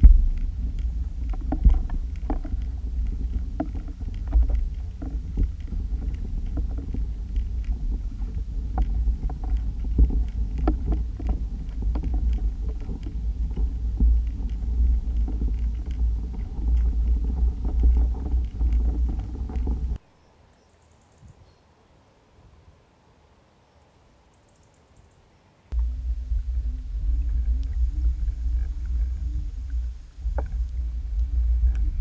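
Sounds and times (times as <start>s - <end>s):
underwater water rumble: 0.0s - 20.0s, 25.8s - 32.0s.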